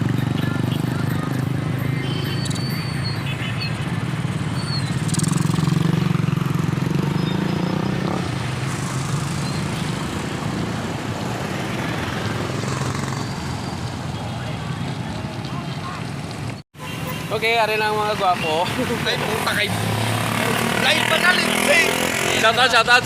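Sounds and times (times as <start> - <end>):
steady road noise: 0.0 - 23.0.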